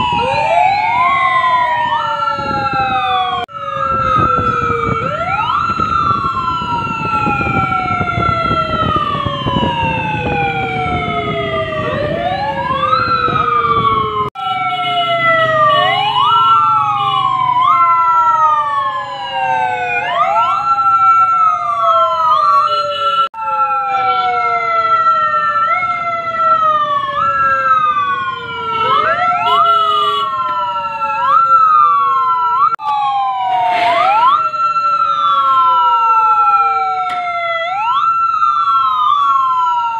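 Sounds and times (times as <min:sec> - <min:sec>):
police sirens wailing: 0:00.0 - 0:39.9.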